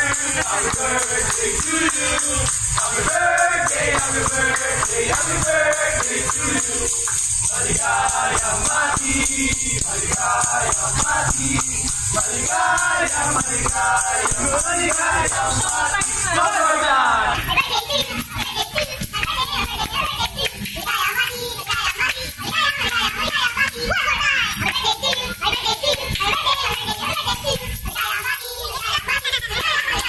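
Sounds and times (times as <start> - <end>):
person singing: 0.0 - 16.4, 17.3 - 30.0
shaker-like rattle: 0.0 - 16.4, 17.4 - 30.0.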